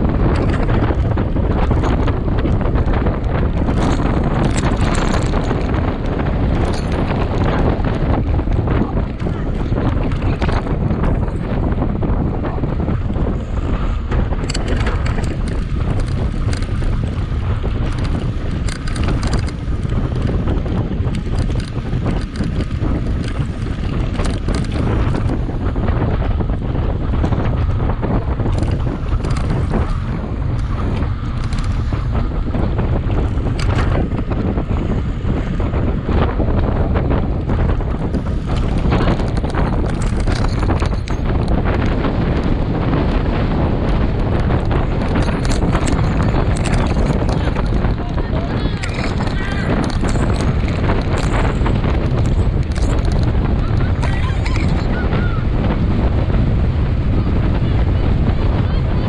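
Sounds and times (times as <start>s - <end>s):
bike clicks and rattles: 0.0s - 58.6s
wind buffeting microphone: 0.0s - 59.0s.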